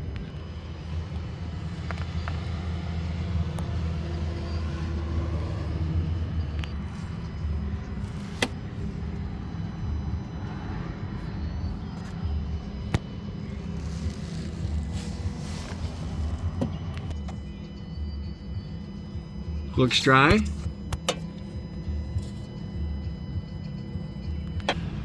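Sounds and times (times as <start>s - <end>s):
car engine idling with low rumble: 0.0s - 25.0s.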